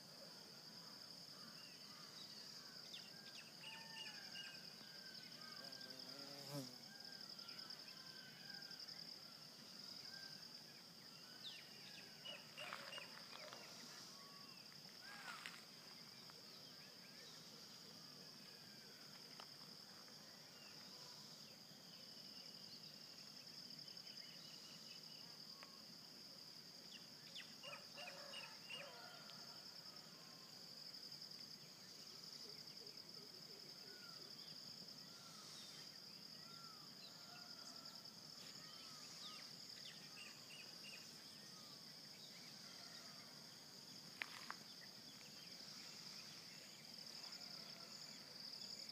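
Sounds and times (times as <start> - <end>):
insect chorus trilling: 0.0 - 48.9.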